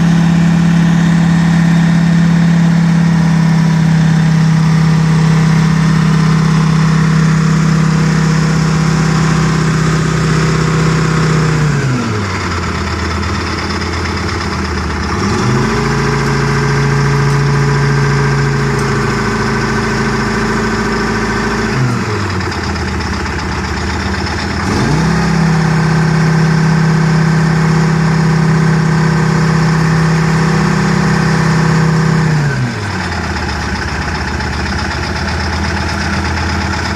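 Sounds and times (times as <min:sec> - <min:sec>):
diesel engine revving and idling: 0:00.0 - 0:36.9.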